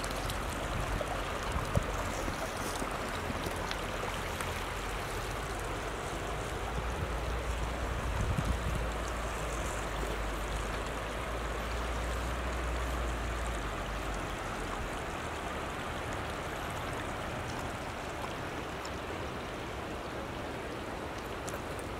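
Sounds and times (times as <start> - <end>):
mountain river rushing: 0.0 - 21.9.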